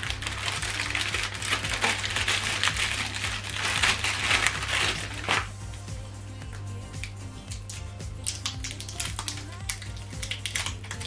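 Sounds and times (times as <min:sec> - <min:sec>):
packet crinkling: 0:00.0 - 0:05.6, 0:07.6 - 0:11.0.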